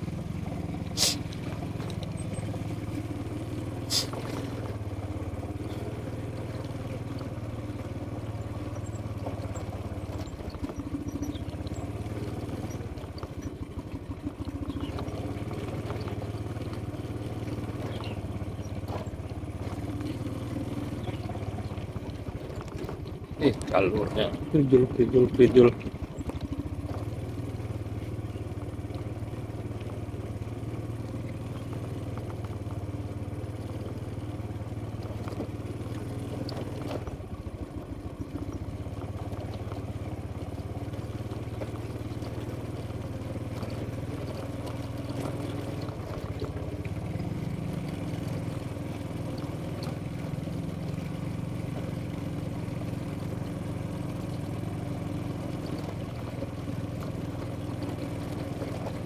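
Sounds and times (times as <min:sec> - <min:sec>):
motor scooter engine running: 0:00.0 - 0:59.0.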